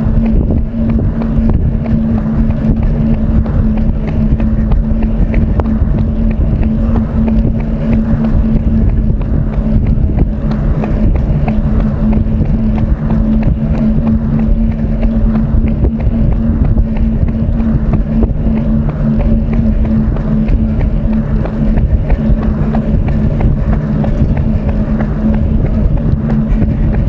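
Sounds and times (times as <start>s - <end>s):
loud constant rumble: 0.0s - 27.0s
steady low hum: 0.0s - 27.0s.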